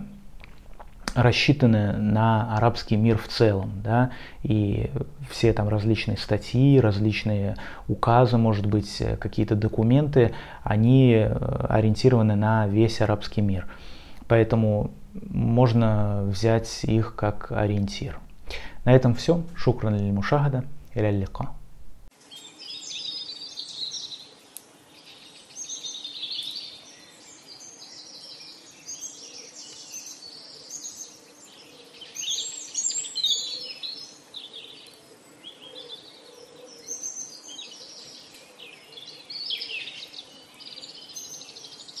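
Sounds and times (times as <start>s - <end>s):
faint background noise: 0.0s - 42.0s
songbirds chirping: 0.0s - 42.0s.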